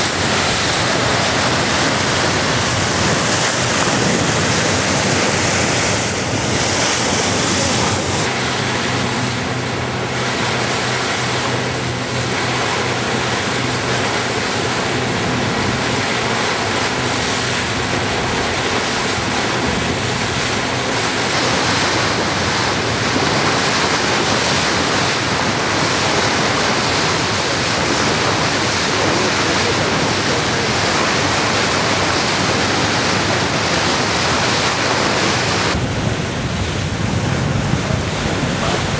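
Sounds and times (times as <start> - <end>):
low engine hum: 0.0 - 38.9
water rushing along ship hull: 0.0 - 38.9
wind buffeting microphone: 0.0 - 38.9.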